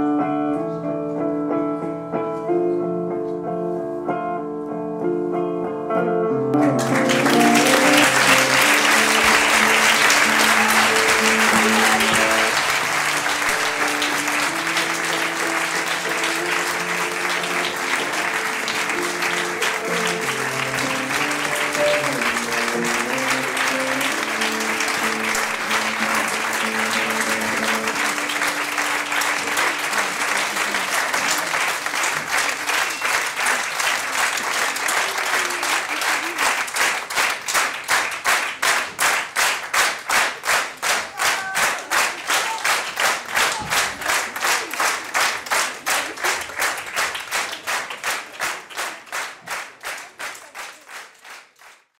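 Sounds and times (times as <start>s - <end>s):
audience applauding: 6.6s - 52.0s
rhythmic clapping in unison: 6.6s - 52.0s.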